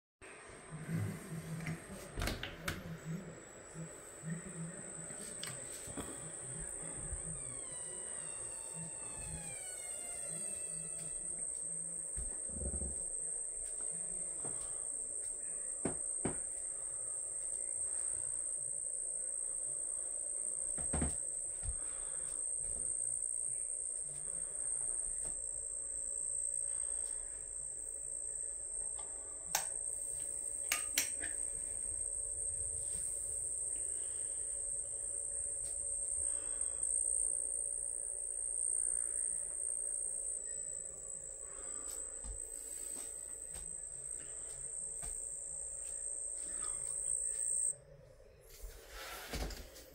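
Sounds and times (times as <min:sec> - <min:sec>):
crickets chirping: 0:00.7 - 0:49.9.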